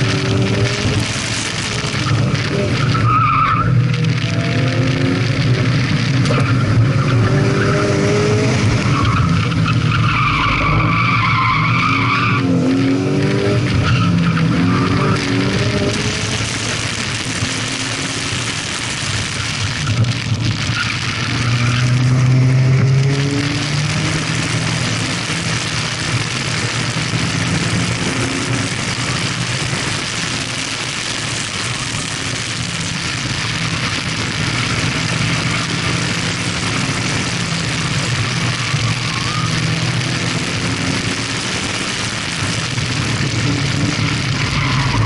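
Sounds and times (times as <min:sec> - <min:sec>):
car engine running hard: 0:00.0 - 0:45.0
wind and road noise: 0:00.0 - 0:45.0.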